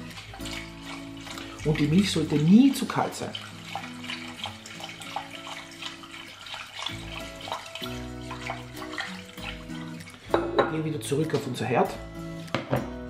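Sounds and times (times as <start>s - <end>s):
milk pouring into saucepan: 0.0s - 11.8s
background music of held notes: 0.0s - 13.0s.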